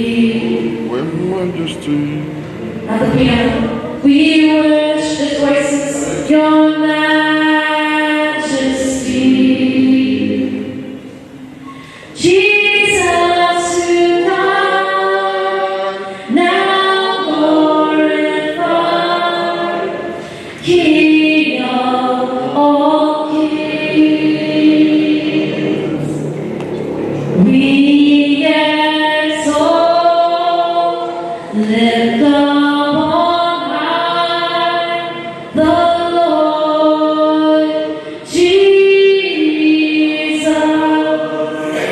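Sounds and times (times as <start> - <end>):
choir singing a slow hymn: 0.0 - 1.0, 2.3 - 41.9.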